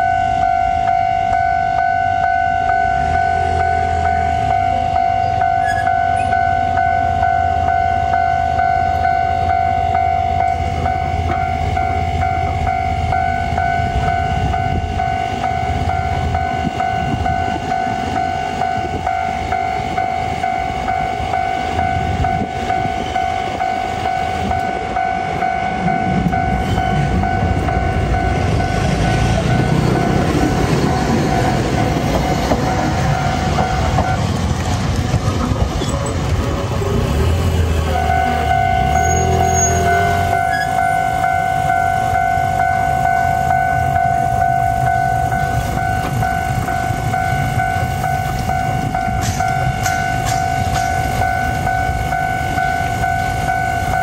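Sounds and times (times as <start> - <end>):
level crossing bell ringing: 0.0 - 34.0, 37.8 - 54.0
tram rumble and wheel noise: 0.0 - 54.0.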